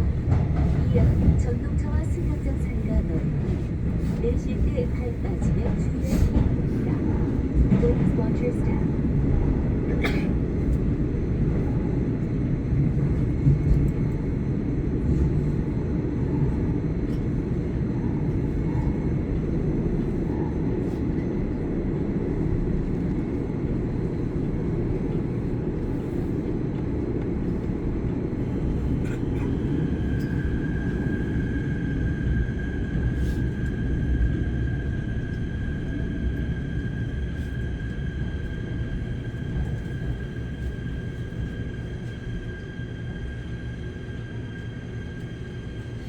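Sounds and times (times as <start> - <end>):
subway train rumbling: 0.0 - 46.0.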